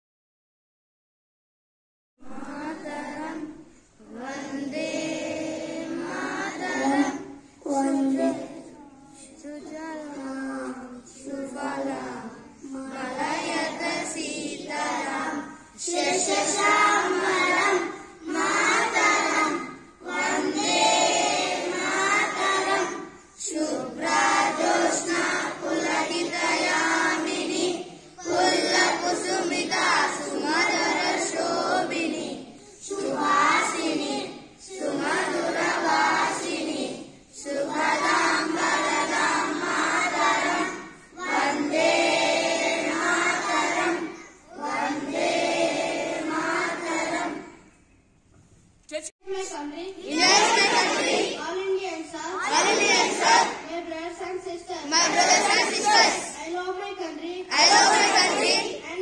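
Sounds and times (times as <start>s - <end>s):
children singing in unison: 2.3s - 47.8s, 50.1s - 51.4s, 52.4s - 53.7s, 54.9s - 56.4s, 57.4s - 59.0s.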